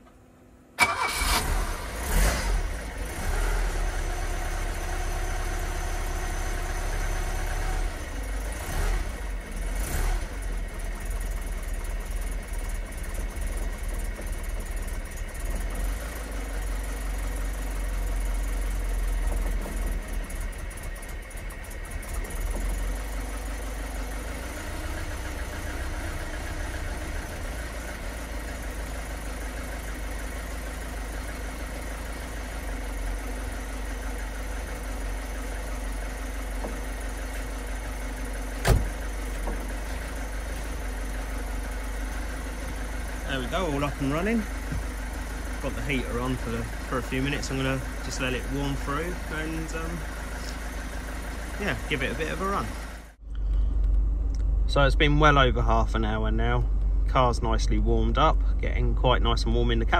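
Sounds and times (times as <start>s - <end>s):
car engine idling roughly: 3.8s - 54.2s, 54.8s - 59.9s.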